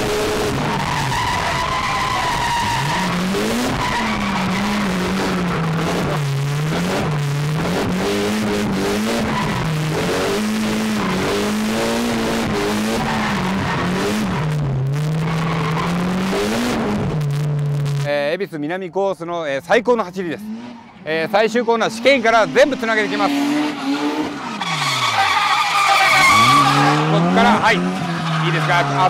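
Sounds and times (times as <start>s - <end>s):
car engine revving: 0.0s - 18.1s, 19.6s - 29.0s
sliding tyre noise: 0.0s - 18.1s, 20.2s - 29.0s.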